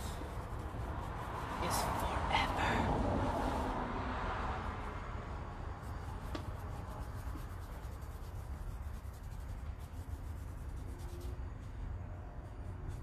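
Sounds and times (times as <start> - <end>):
paintbrush strokes on fabric: 0.0 - 2.6, 4.7 - 13.0
steady low hum: 0.0 - 13.0.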